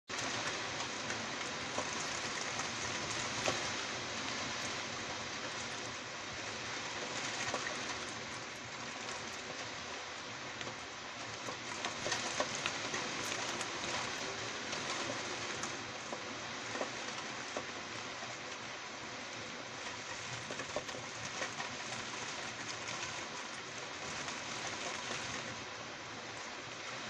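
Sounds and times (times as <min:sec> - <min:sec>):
rain hissing: 0:00.1 - 0:27.0
raindrops tapping surfaces: 0:00.1 - 0:27.0.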